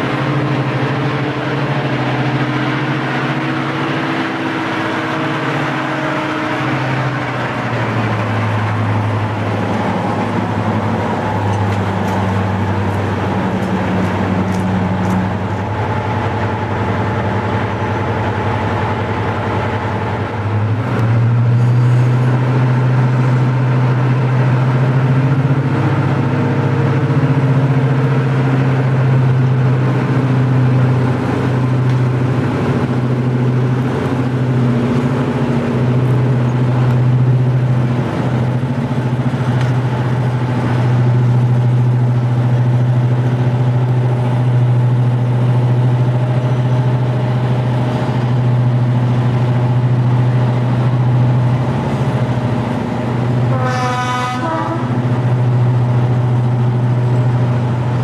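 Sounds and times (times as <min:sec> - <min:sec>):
diesel locomotive engines humming: 0:00.0 - 0:58.0.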